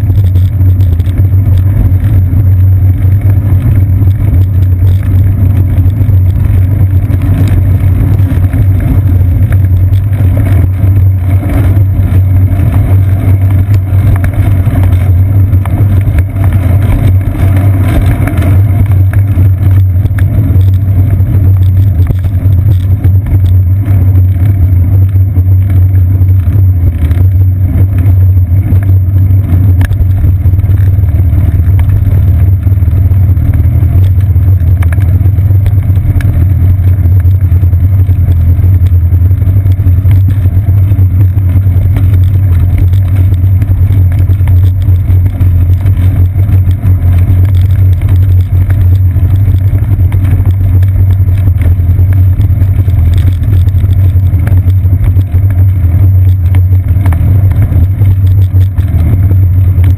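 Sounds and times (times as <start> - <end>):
wind and ride vibration rumble: 0.0 - 59.9.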